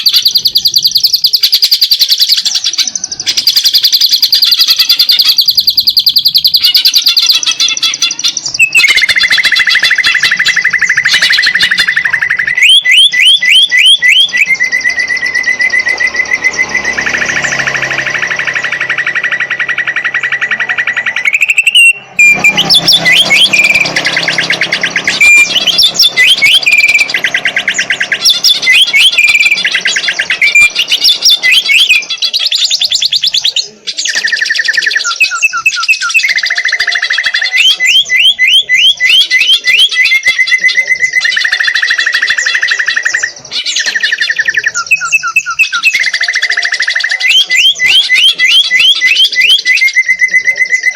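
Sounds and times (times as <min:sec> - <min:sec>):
songbird trilling and whistling: 0:00.0 - 0:50.9.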